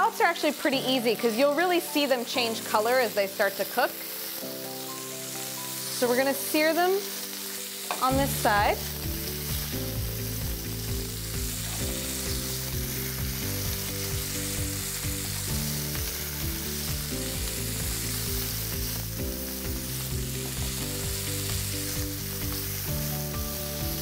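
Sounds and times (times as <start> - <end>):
scallops sizzling in oil: 0.0 - 24.0.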